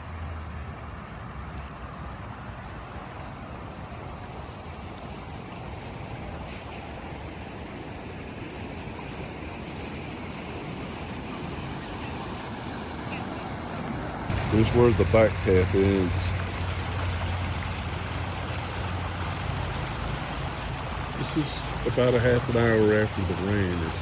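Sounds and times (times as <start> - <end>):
rushing creek water: 0.0 - 24.0.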